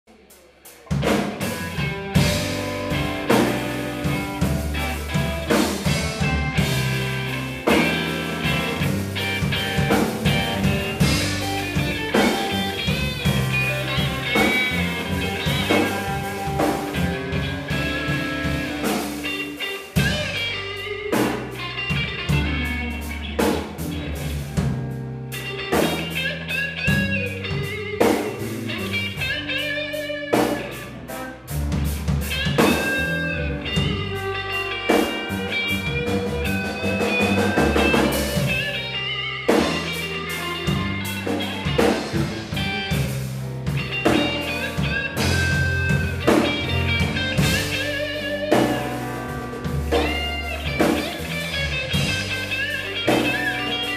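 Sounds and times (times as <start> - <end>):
bass guitar: 0.1 - 53.9
drum kit: 0.1 - 53.9
electric guitar lead with bent notes: 0.9 - 53.9.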